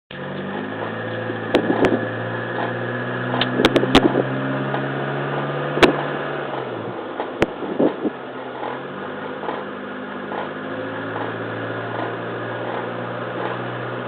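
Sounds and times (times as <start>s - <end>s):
car engine running: 0.1s - 14.0s.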